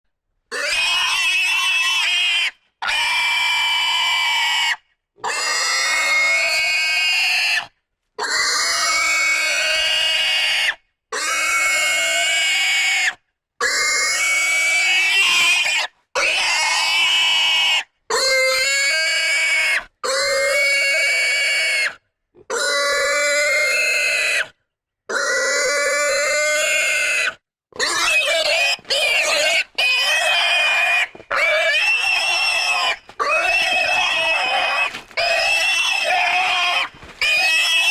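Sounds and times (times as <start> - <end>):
pig squealing: 0.5 - 37.9.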